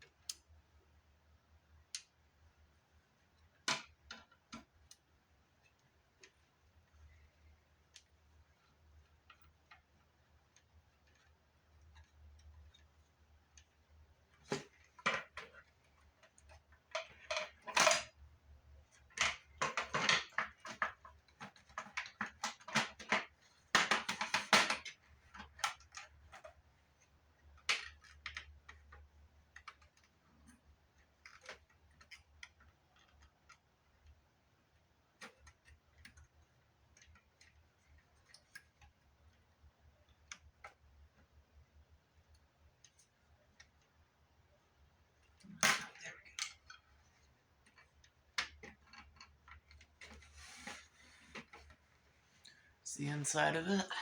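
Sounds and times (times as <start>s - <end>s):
hands and tools on plastic case: 3.1s - 52.7s.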